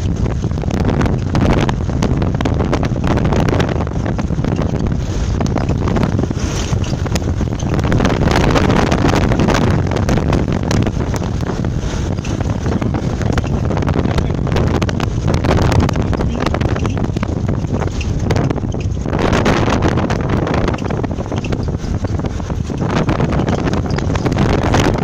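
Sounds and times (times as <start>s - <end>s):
vehicle rumbling on a dirt road: 0.0s - 25.0s
wind buffeting the microphone: 0.0s - 25.0s.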